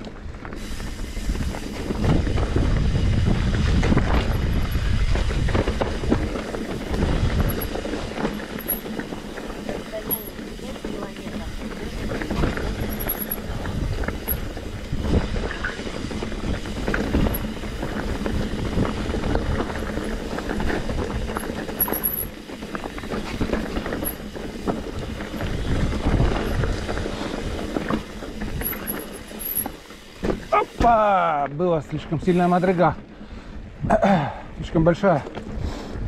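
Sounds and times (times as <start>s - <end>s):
bike knocking and rattling: 0.0s - 33.3s, 34.9s - 36.0s
bike tyres rumbling on rock: 0.0s - 34.3s, 34.9s - 36.0s.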